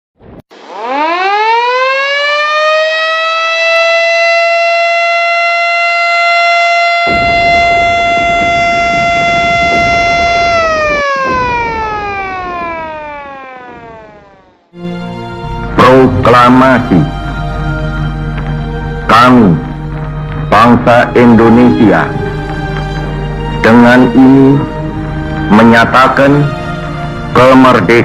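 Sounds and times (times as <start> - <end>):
civil defence siren wailing: 0.5 - 28.0.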